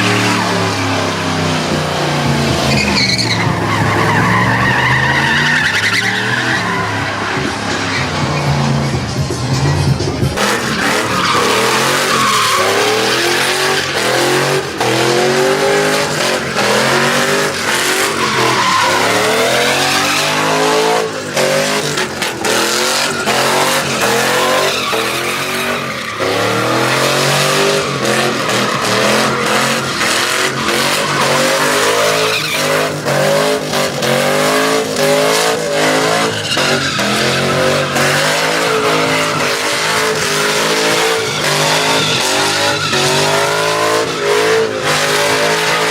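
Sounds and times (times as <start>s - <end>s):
truck engine revving: 0.0s - 45.9s
tyres squealing: 2.5s - 34.2s, 35.0s - 45.9s.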